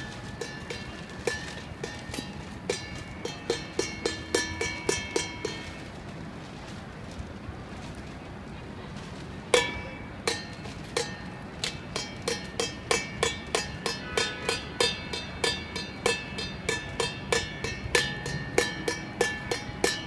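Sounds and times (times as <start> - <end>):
rhythmic ringing struck hits: 0.0 - 5.9, 9.6 - 20.0.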